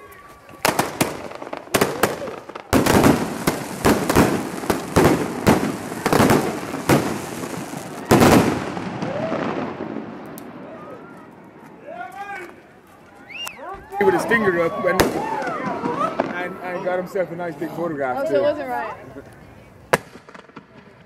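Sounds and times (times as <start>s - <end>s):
fireworks bangs: 0.0s - 12.7s, 14.0s - 17.3s, 19.9s - 21.0s
fireworks crackling: 0.0s - 21.0s.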